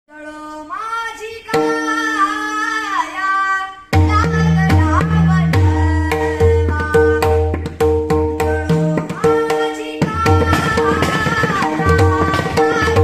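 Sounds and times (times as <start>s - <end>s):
man singing devotional song: 0.1s - 7.8s, 8.4s - 13.0s.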